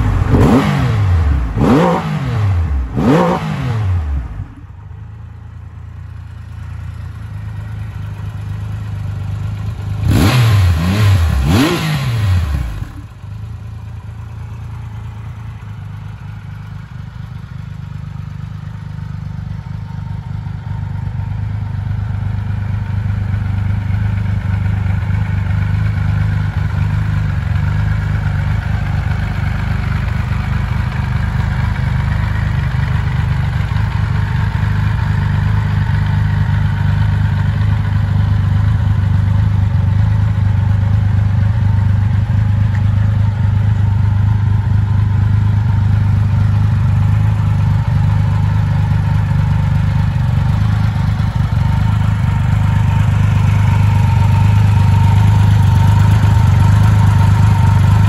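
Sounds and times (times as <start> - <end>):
motorcycle engine revving and idling: 0.0 - 58.0.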